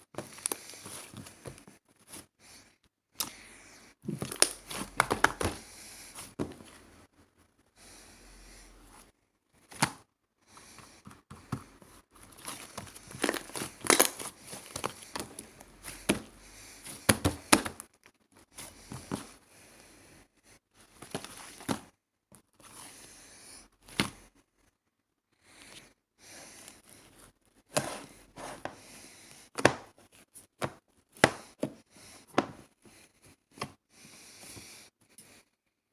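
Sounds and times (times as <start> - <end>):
crinkling and rustling handling: 0.0 - 3.4, 4.0 - 7.7, 8.8 - 20.0, 20.7 - 23.1, 25.6 - 34.6.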